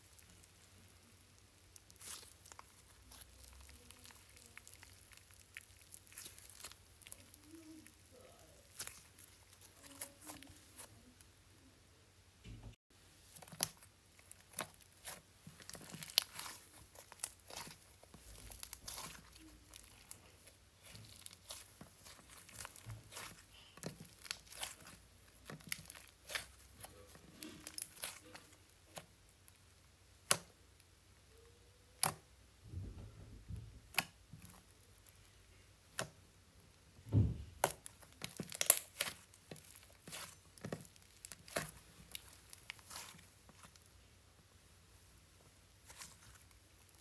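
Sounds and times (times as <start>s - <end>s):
slime squished by hand: 0.0s - 11.2s, 13.2s - 30.6s, 31.3s - 32.3s, 36.9s - 44.0s, 45.4s - 47.0s.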